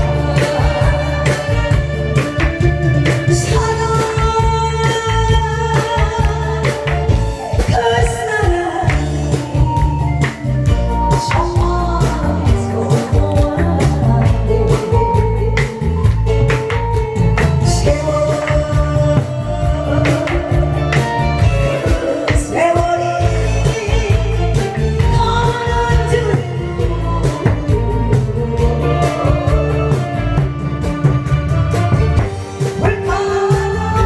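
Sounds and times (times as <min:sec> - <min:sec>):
band backing music: 0:00.0 - 0:34.0
person singing: 0:00.0 - 0:34.0
steady drum beat: 0:00.0 - 0:34.0.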